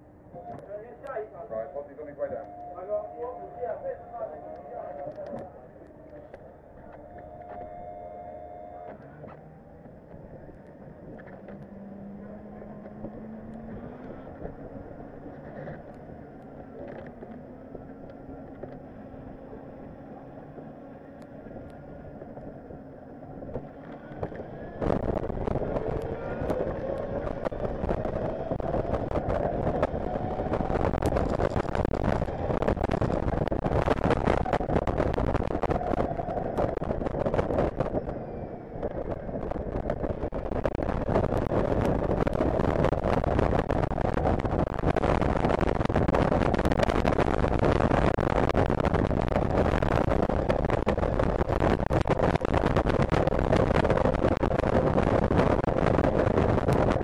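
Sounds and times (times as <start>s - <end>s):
wind and road noise: 0.0s - 57.0s
electric motorcycle motor whine: 1.7s - 57.0s.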